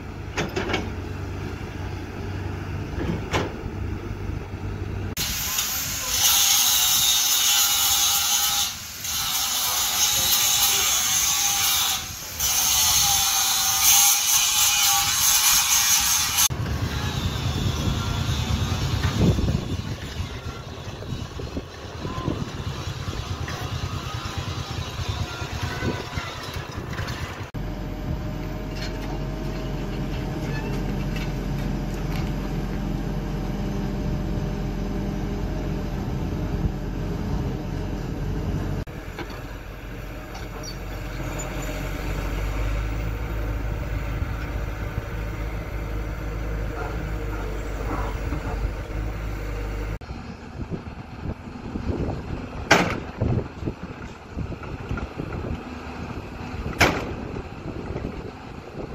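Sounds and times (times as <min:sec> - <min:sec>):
excavator diesel engines running: 0:00.0 - 0:06.1, 0:16.0 - 0:58.9.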